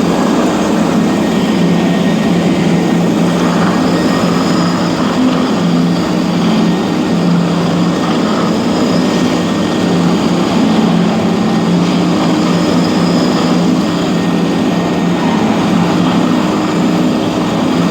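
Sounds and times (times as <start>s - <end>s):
floor grinder motor hum: 0.0s - 17.9s.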